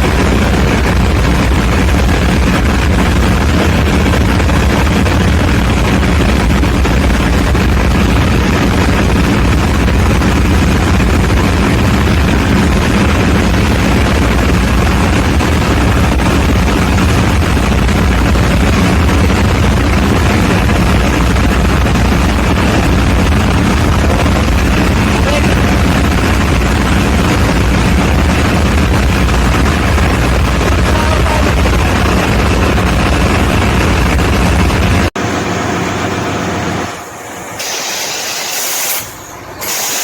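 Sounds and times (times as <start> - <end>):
diesel generator engine drone: 0.0 - 40.0.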